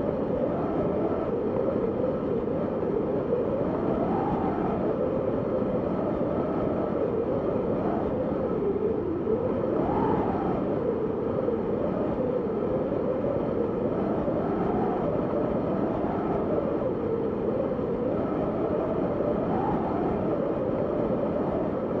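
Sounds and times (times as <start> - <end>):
howling wind: 0.0 - 22.0.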